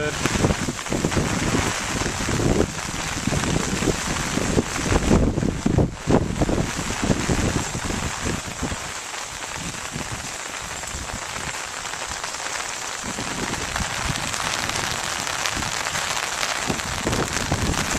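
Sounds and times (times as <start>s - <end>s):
rain pattering: 0.0s - 17.9s
wind gusts on microphone: 0.0s - 17.9s.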